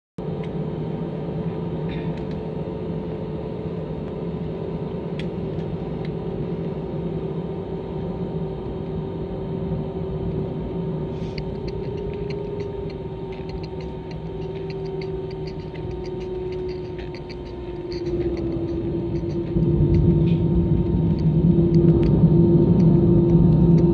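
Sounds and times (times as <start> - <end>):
jet engines droning: 0.2 - 23.9.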